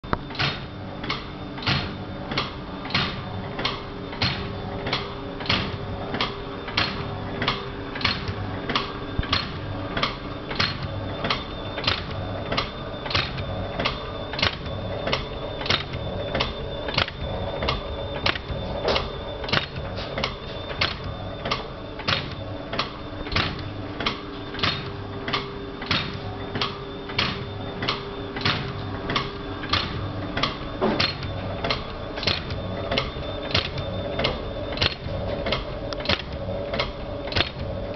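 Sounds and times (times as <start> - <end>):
motor hum: 0.0 - 37.9
sharp mechanical clicking: 0.3 - 37.7.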